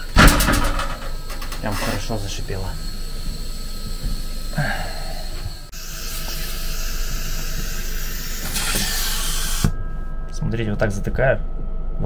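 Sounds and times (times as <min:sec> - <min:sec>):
air hissing through a leak: 0:00.0 - 0:09.8
vacuum pump running: 0:00.0 - 0:11.0.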